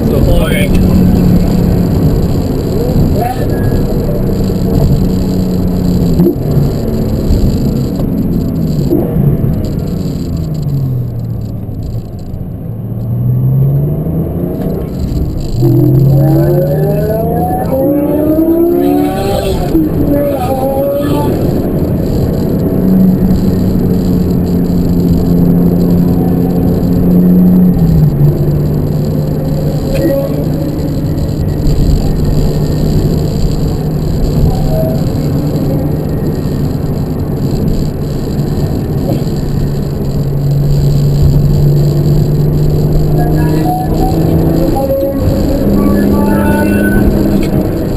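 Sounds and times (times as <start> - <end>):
car engine accelerating: 0.0 - 47.9
road noise: 0.0 - 47.9.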